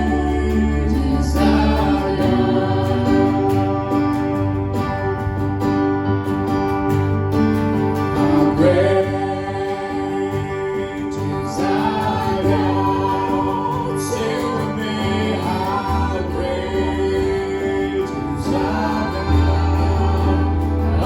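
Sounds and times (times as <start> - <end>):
choir singing worship music: 0.0 - 6.3, 7.3 - 21.0
steady bass: 0.0 - 21.0
sustained chords: 0.0 - 21.0.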